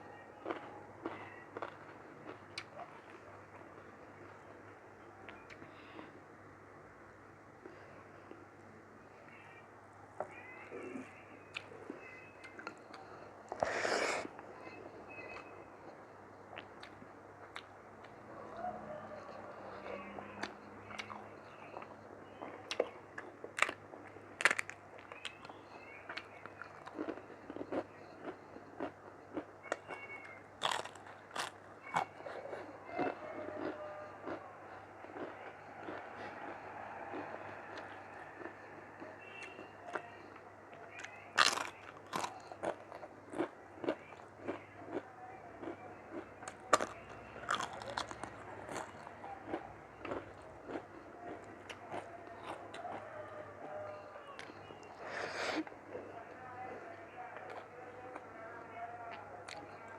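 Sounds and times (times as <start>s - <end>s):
person chewing food: 0.4s - 4.5s, 10.9s - 45.0s, 45.6s - 56.1s.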